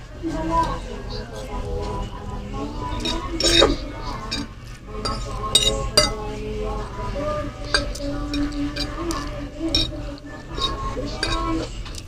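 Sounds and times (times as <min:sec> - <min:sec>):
utensils clinking against dish: 0:00.3 - 0:12.0.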